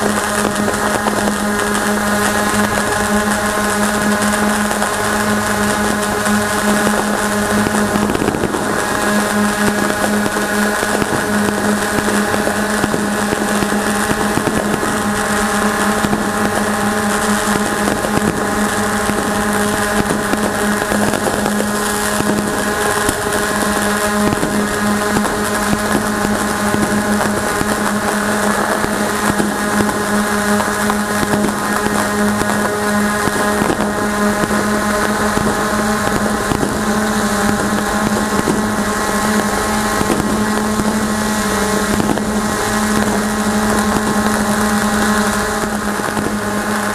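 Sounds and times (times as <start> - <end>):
drone propellers humming: 0.0 - 46.9
faint firework bangs and crackles: 0.0 - 46.9.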